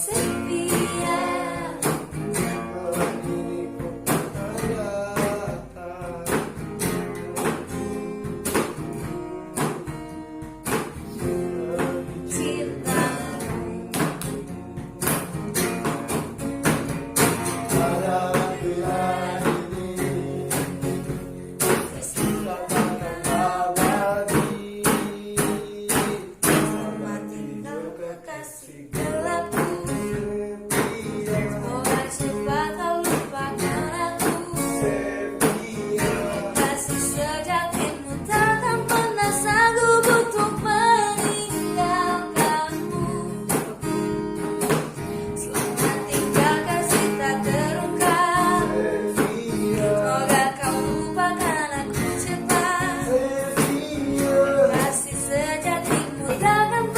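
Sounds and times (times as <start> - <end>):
person singing: 0.0 - 6.9, 11.0 - 15.3, 17.5 - 44.1, 44.9 - 56.9
strummed guitar: 0.0 - 56.9.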